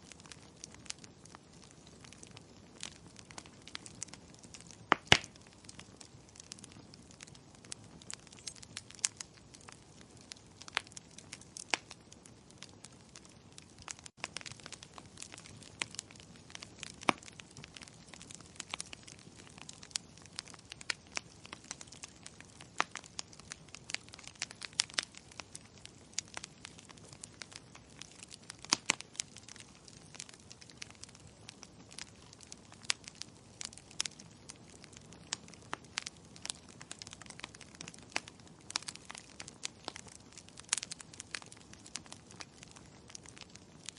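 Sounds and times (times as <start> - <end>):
fire crackling in a fireplace: 0.0 - 43.9.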